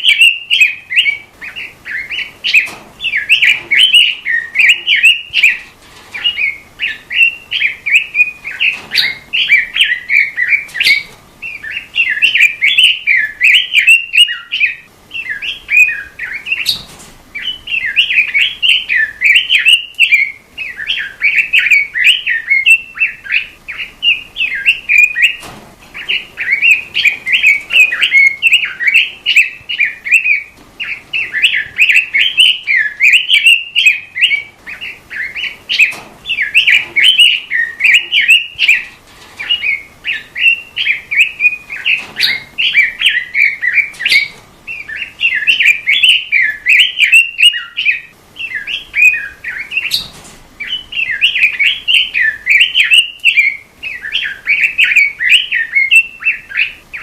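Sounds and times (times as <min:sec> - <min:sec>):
songbird warbling chatter: 0:00.0 - 0:57.0.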